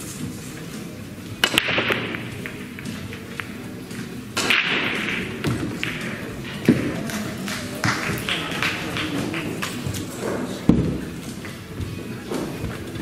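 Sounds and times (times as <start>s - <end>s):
background music: 0.0s - 13.0s
pool balls clicking: 1.3s - 13.0s.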